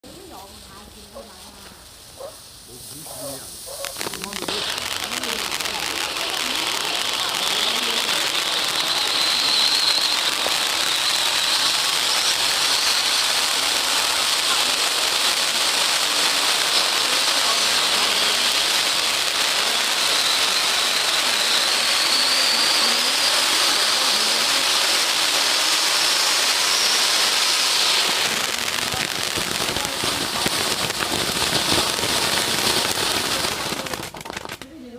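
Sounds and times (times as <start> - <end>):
firework fountain hissing: 0.0 - 34.9.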